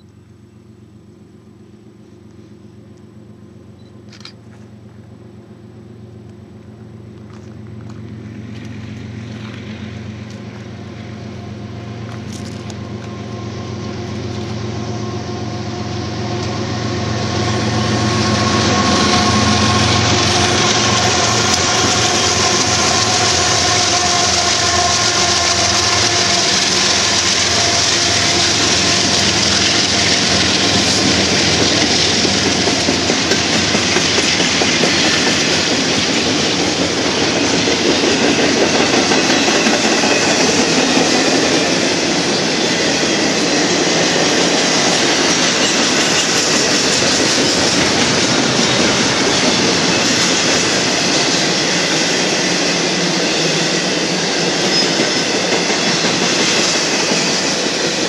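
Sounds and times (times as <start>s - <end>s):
diesel locomotive engine drone: 0.0s - 58.0s
train cars clickety-clack: 6.2s - 58.0s.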